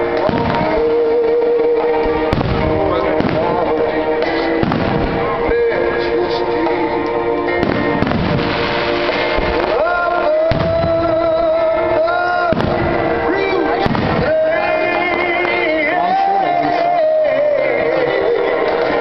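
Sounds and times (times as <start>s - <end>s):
fireworks bursting: 0.0s - 5.6s, 7.5s - 17.1s
music with sung melody: 0.0s - 19.0s.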